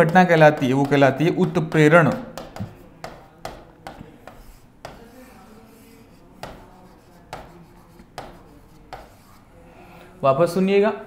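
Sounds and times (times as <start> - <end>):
writing on a board: 0.0 - 9.5.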